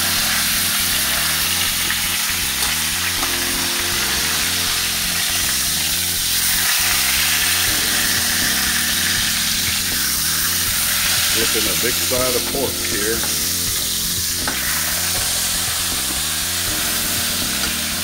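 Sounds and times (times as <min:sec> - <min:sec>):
pork roast sizzling in wok: 0:00.0 - 0:18.0.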